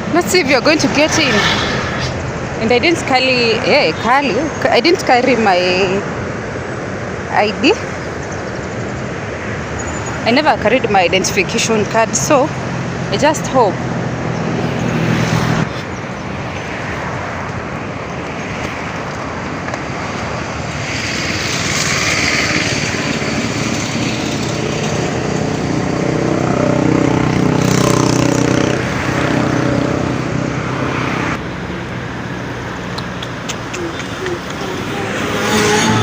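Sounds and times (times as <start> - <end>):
vehicle engines humming: 0.0 - 36.0.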